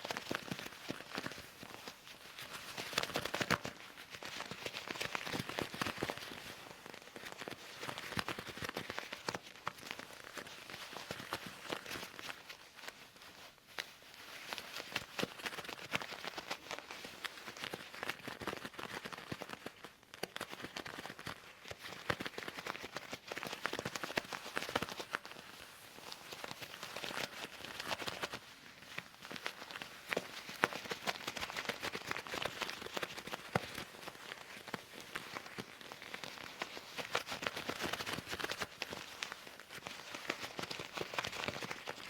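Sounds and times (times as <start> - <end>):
leather gloves crinkling and creaking: 0.0 - 42.0.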